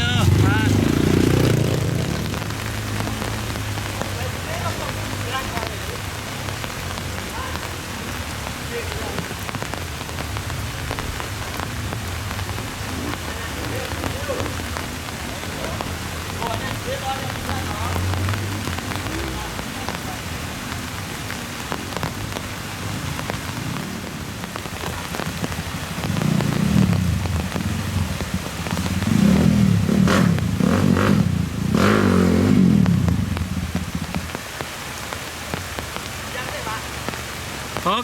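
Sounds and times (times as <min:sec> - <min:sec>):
heavy rain pattering: 0:00.0 - 0:38.0.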